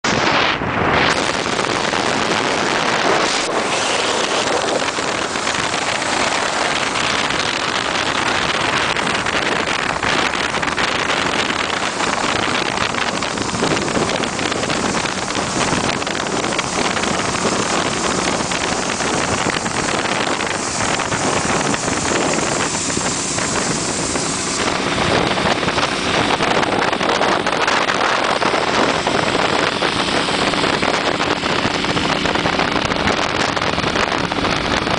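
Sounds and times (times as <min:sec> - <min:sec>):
wind noise on microphone: 0:00.0 - 0:34.9
motorcycle engines droning: 0:00.1 - 0:34.9.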